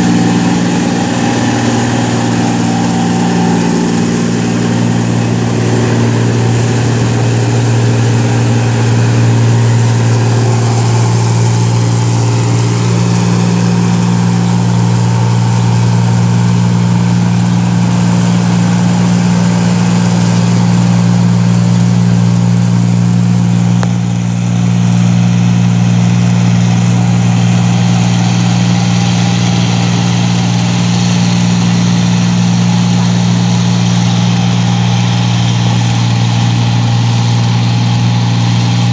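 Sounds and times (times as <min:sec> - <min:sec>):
harvesting machine engine running: 0:00.0 - 0:38.9.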